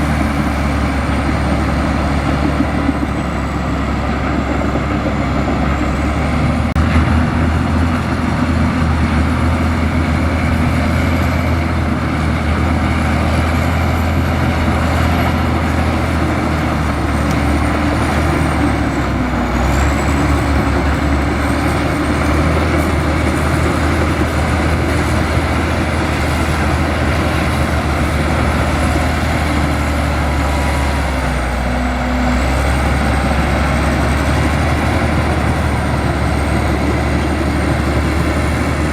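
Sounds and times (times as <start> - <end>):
heavy diesel engine rumble: 0.0 - 38.9.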